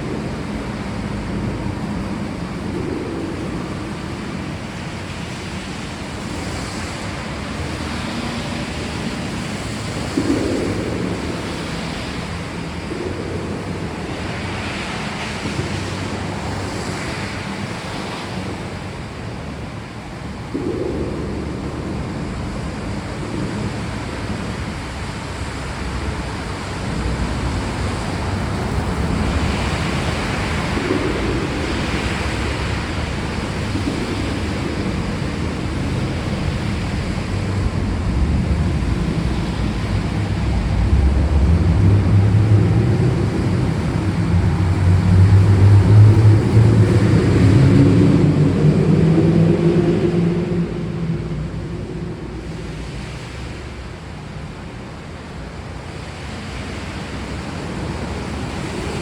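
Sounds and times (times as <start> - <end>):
low rumble of thunder: 0.0 - 56.2
steady rain hiss: 0.0 - 59.0.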